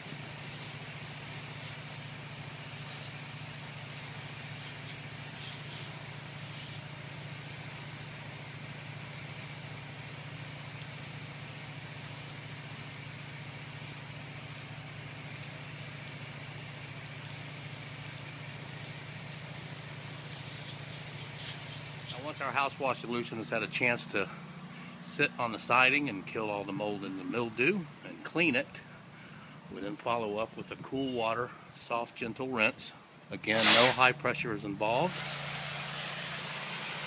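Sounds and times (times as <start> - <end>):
sprayer pump motor humming: 0.0 - 31.5, 33.3 - 37.0.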